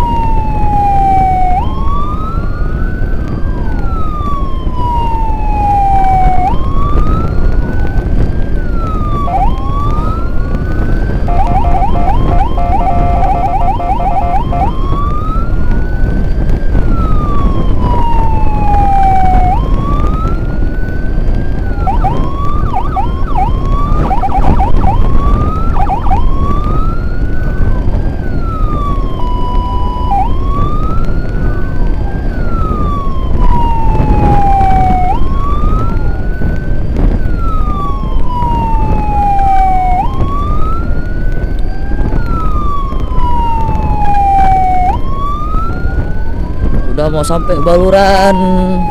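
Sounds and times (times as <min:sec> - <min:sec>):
electronic siren wailing: 0:00.0 - 0:48.9
siren yelps: 0:00.0 - 0:48.9
steady siren tone: 0:00.0 - 0:48.9.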